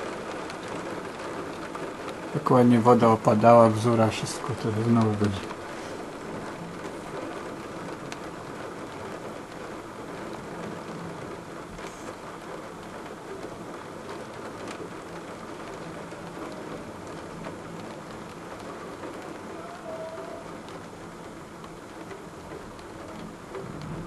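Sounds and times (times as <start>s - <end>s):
heavy rain hissing: 0.0s - 24.0s
raindrops clicking nearby: 0.0s - 24.0s.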